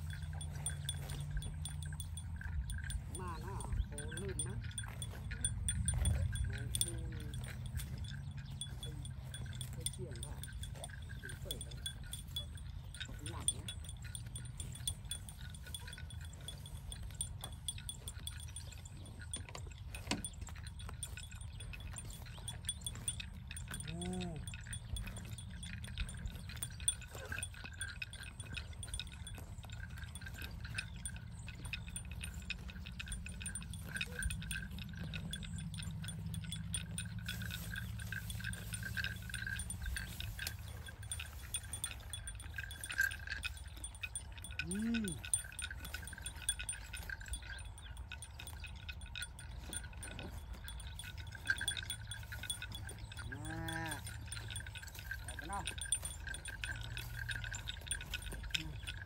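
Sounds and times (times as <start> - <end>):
cattle bells clinking: 0.0 - 59.0.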